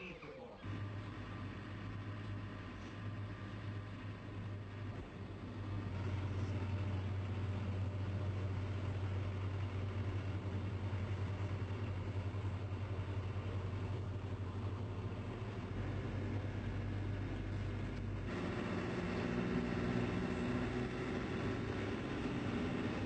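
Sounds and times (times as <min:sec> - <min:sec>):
vehicle engines droning: 0:00.6 - 0:23.0.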